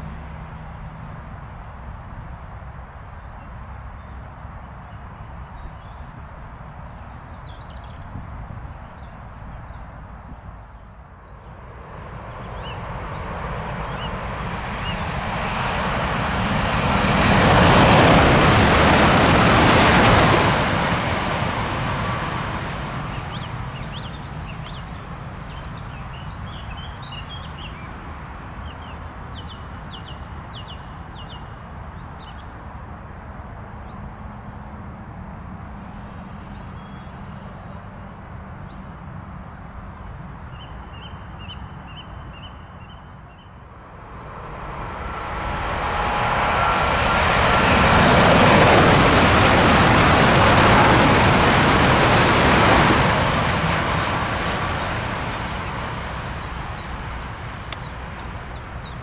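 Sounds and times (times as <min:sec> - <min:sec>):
high-speed train rushing past: 0:07.9 - 0:29.4, 0:32.9 - 0:59.0.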